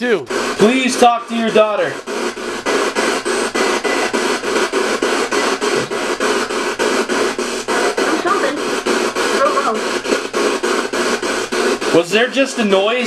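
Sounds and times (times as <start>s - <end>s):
radio static hiss in short bursts: 0.0s - 13.0s.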